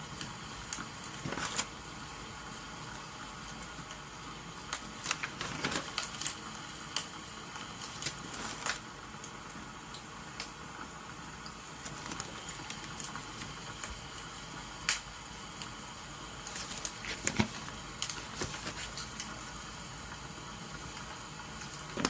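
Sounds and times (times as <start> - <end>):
wood fire crackling and popping: 0.0 - 1.7, 2.8 - 19.4.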